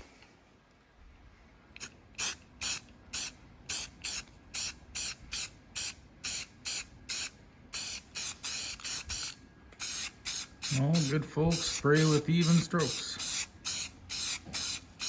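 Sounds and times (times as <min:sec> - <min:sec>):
spray paint can hissing: 0:01.8 - 0:15.0.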